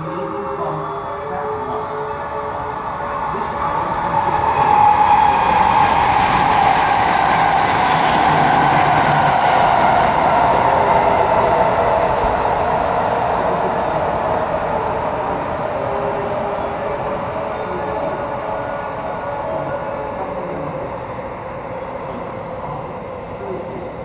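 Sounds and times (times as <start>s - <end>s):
electric train passing at speed: 0.0s - 24.0s.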